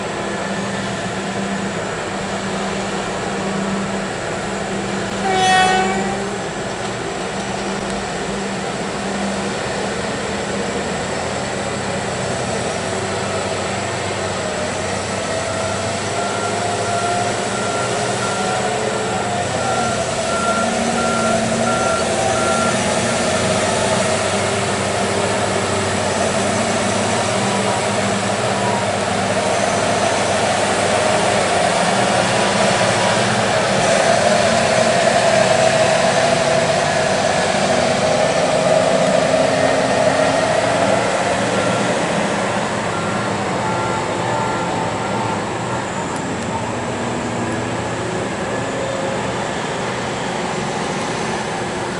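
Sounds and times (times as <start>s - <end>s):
excavator and truck engines running: 0.0s - 51.9s.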